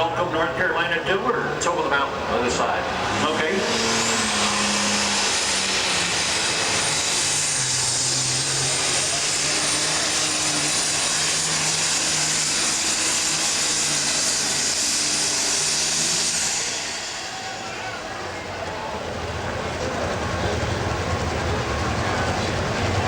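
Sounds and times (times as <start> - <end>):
tractor engine drone: 0.0 - 23.0.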